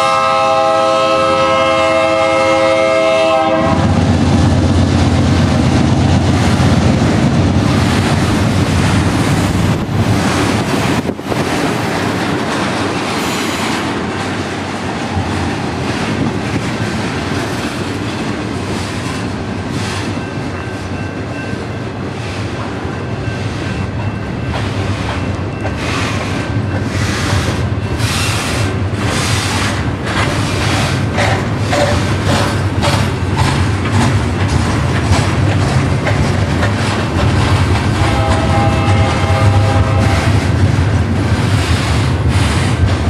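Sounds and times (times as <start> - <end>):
diesel locomotives rumbling: 0.0 - 43.0
train wheels on rails: 0.0 - 43.0.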